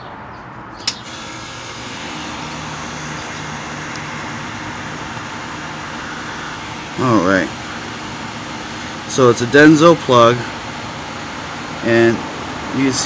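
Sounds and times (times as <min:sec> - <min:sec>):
machine hum and hiss: 0:00.8 - 0:13.0.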